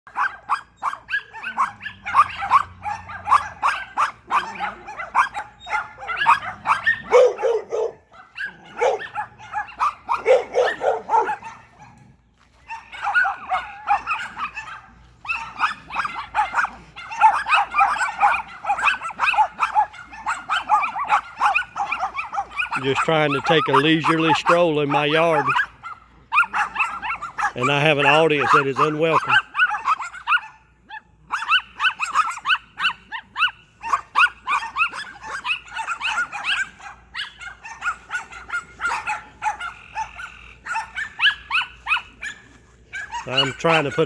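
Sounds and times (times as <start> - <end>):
deep-voiced dog barking: 0.1 - 44.0
dogs barking: 0.1 - 44.0.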